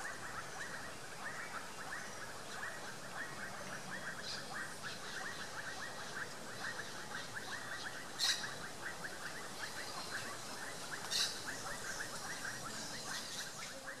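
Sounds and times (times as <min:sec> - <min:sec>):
birds chirping chorus: 0:00.0 - 0:14.0
sharp bird calls: 0:00.0 - 0:14.0.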